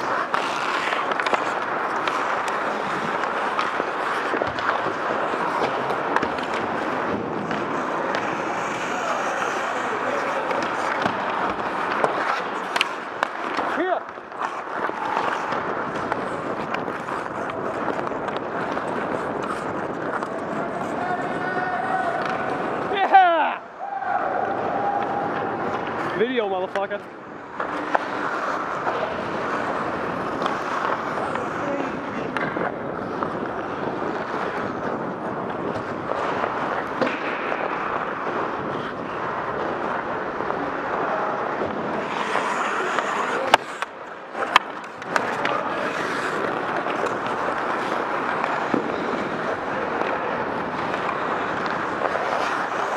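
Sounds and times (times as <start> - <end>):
skate blades scraping ice: 0.0 - 23.6, 24.2 - 52.9.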